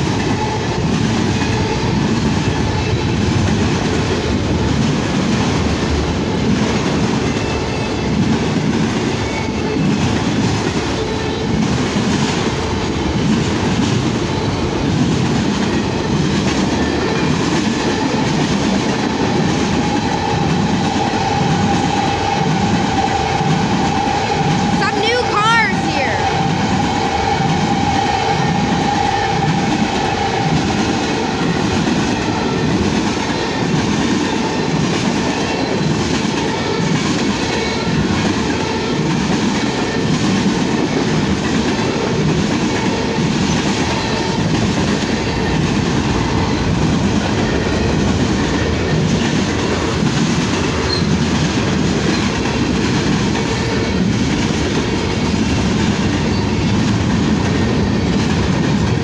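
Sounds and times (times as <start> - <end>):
freight train wheels rumbling: 0.0 - 59.0
train cars clacking: 0.0 - 59.0.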